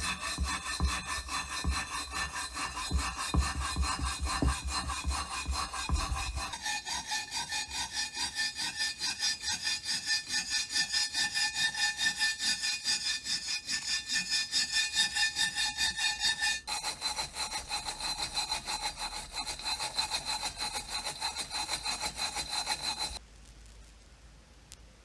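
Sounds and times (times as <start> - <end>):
sawing strokes: 0.0 - 23.2.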